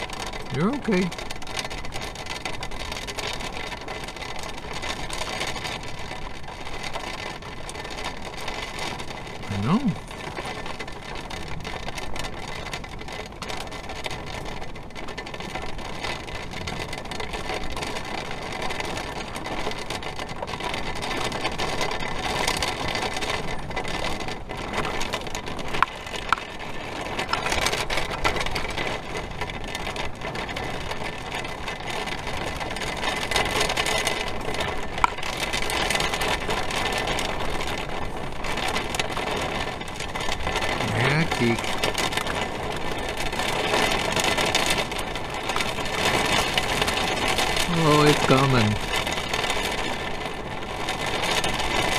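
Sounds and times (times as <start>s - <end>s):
heavy rain on vehicle roof: 0.0s - 51.9s
wind: 0.0s - 51.9s.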